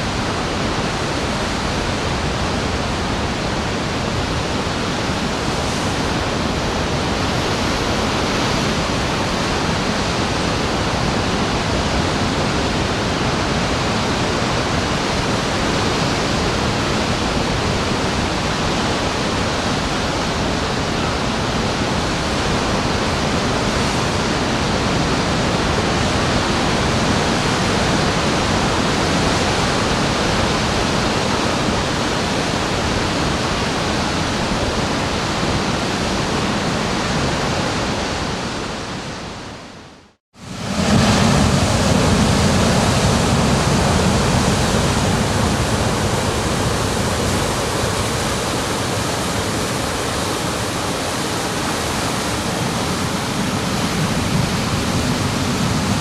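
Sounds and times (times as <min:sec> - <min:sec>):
ocean waves breaking: 0:00.0 - 0:39.7, 0:40.4 - 0:56.0.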